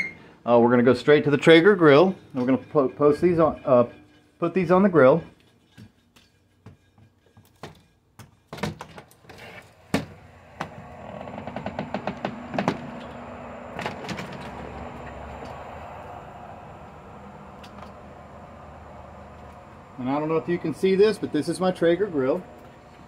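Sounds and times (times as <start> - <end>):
outdoor background hum: 0.0 - 23.0.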